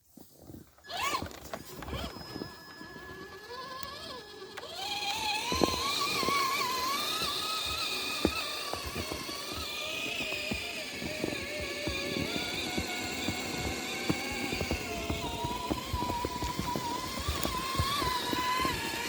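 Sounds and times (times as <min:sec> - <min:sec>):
electric motor whining: 0:00.8 - 0:19.0.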